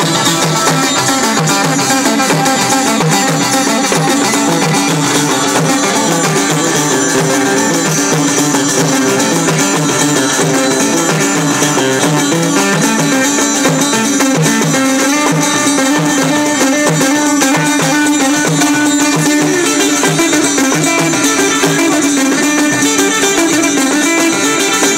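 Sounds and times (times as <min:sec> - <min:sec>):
frame drums beating: 0:00.0 - 0:24.9
plucked lute melody: 0:00.0 - 0:24.9.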